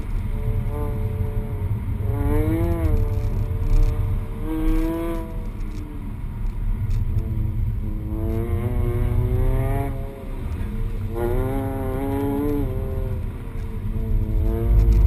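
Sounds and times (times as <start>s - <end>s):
car engine accelerating: 0.0s - 15.0s
low road rumble: 0.0s - 15.0s.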